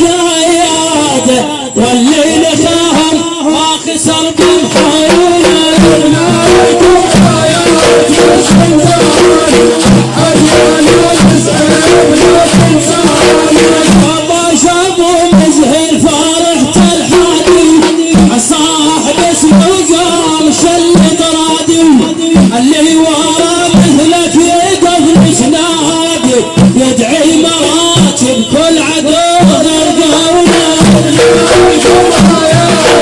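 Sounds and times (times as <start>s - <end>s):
fast dense percussion: 0.0s - 33.0s.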